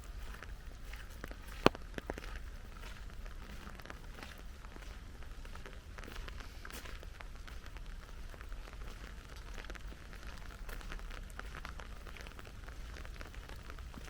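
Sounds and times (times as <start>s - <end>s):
raindrops ticking: 0.0s - 14.0s.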